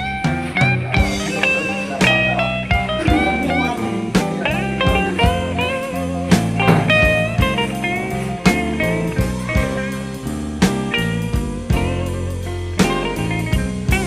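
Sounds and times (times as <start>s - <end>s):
blues-rock guitar music: 0.0s - 14.0s
steady drum beat: 0.3s - 14.0s.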